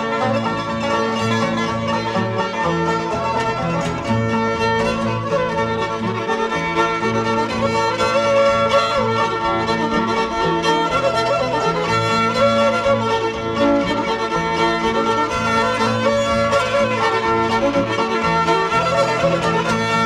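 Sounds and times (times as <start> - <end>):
bluegrass band playing: 0.0 - 20.0
fiddle melody: 0.0 - 20.0.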